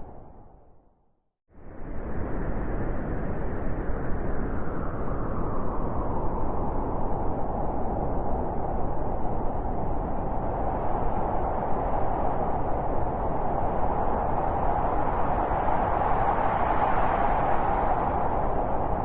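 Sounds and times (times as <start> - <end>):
blizzard wind howling: 1.6 - 19.0.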